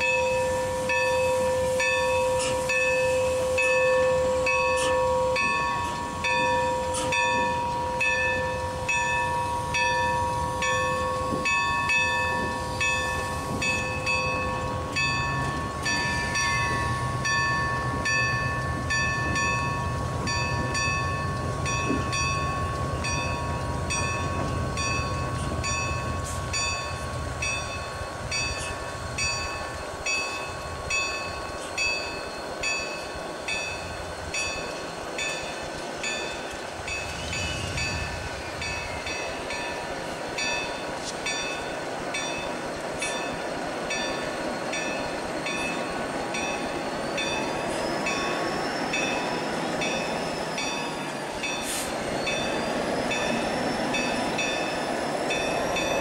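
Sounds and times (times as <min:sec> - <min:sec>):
locomotive bell ringing: 0:00.0 - 0:56.0
steady whining tone: 0:00.0 - 0:56.0.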